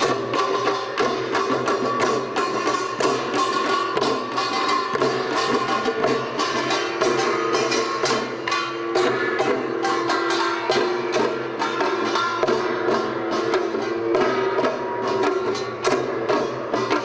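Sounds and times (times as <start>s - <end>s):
barrel drums beating: 0.0s - 17.0s.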